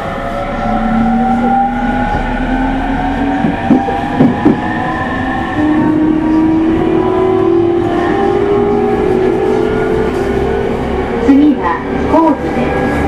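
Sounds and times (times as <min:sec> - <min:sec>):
train inverter whine: 0:00.0 - 0:13.0
train wheels rumbling on rails: 0:00.0 - 0:13.0.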